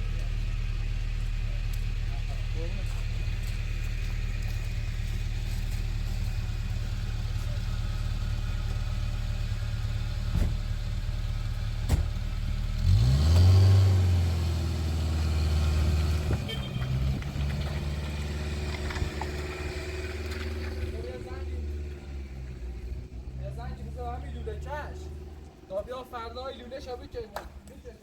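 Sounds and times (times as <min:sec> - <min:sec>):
vehicle engine revving: 0:00.0 - 0:27.7.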